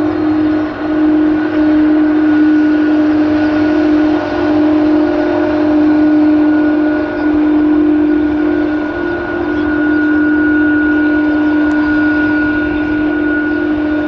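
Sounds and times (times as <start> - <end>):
engine rushing noise: 0.0 - 14.0
jet engines whining: 0.0 - 14.0.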